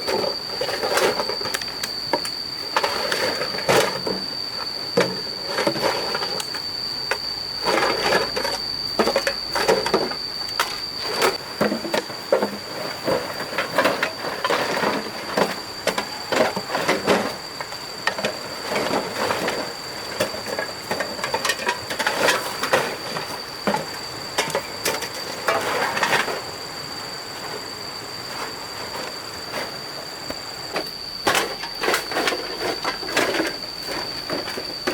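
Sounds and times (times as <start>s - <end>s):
steady high-pitched whine: 0.0s - 34.9s.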